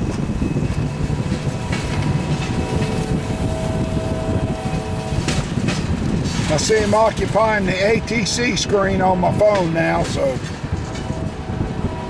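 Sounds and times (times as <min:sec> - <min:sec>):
diesel locomotives rumbling: 0:00.0 - 0:12.0
locomotive air horn chord: 0:00.0 - 0:12.0.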